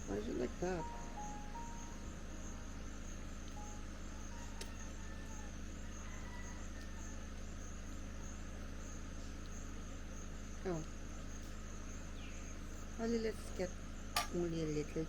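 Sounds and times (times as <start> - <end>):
insects pulsing chorus: 0.0 - 15.0
low steady hum: 0.0 - 15.0.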